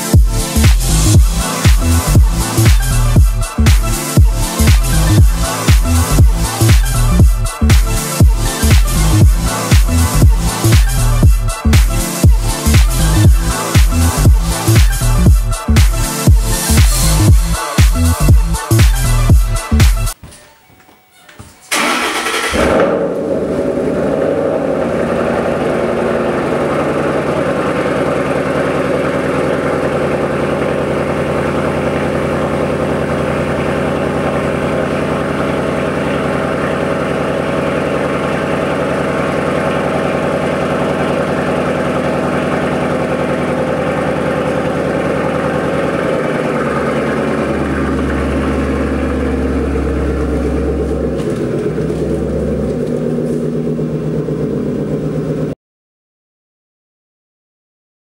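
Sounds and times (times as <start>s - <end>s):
car engine idling: 0.0s - 20.2s, 21.7s - 55.6s.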